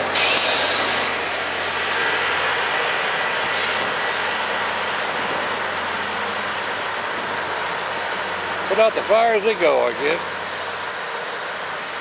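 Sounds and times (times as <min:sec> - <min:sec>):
rail grinder train rushing noise: 0:00.0 - 0:12.0.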